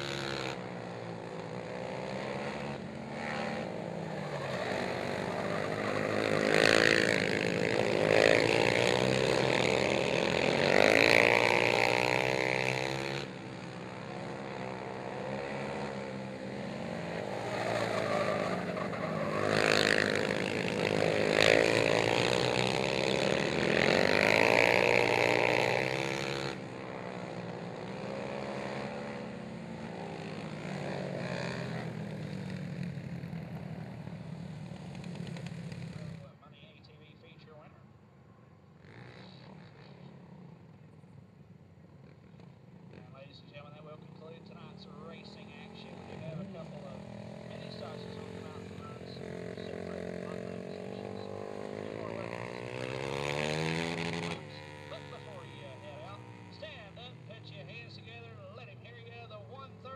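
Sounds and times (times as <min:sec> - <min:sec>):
atv engines revving: 0:00.0 - 0:59.9.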